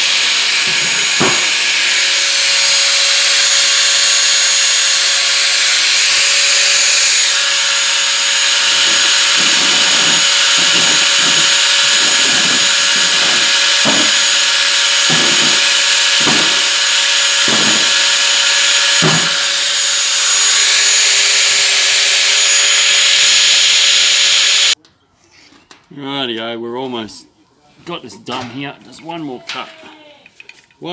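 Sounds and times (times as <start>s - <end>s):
power tool cutting metal: 0.0s - 24.8s.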